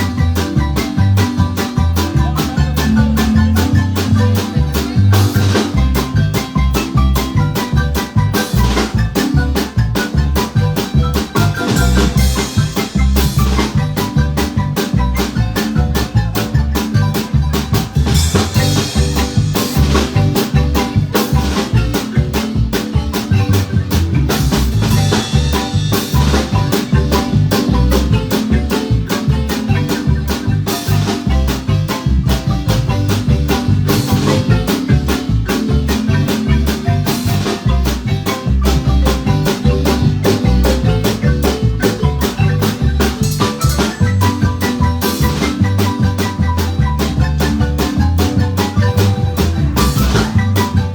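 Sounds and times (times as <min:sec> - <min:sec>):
bass and drum beat: 0:00.0 - 0:50.9
marimba notes: 0:00.0 - 0:50.9.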